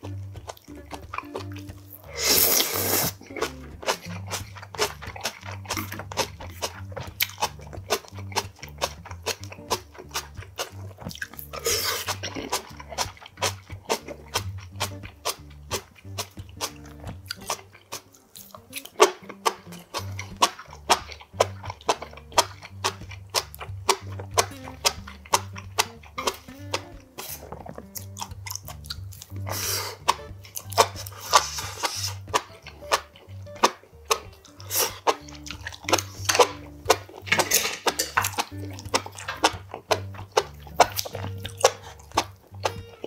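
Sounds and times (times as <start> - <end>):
background music with bass line: 0.0 - 43.0
chewing and biting: 0.0 - 43.0
wet mouth clicks: 0.0 - 43.0.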